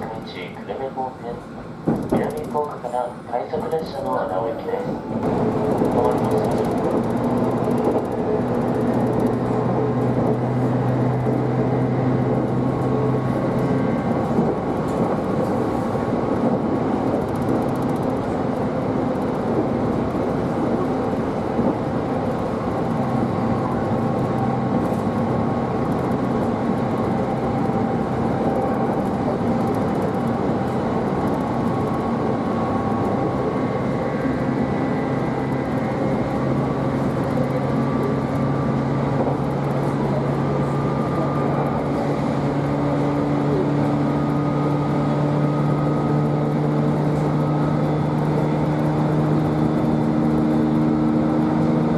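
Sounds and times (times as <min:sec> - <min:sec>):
train motor hum: 0:00.0 - 0:51.9
train wheels rumbling on track: 0:00.0 - 0:51.9.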